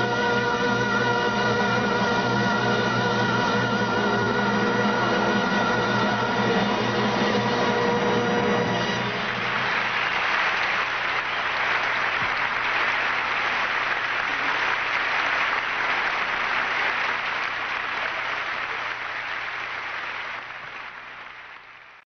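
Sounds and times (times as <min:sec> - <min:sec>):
audience applauding: 0:02.4 - 0:22.0.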